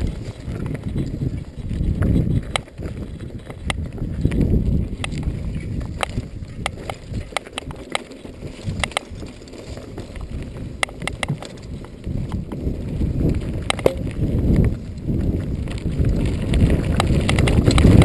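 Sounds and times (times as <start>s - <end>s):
bike clicking and clattering: 0.0s - 18.0s
bike tyres rolling over dirt: 0.0s - 18.0s.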